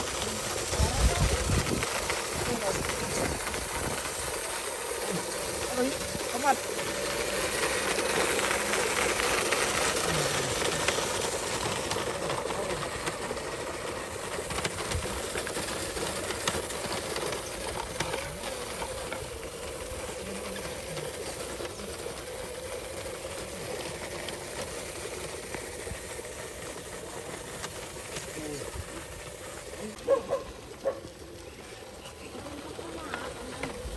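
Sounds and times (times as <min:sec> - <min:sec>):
model truck motor whining: 0:00.0 - 0:31.3.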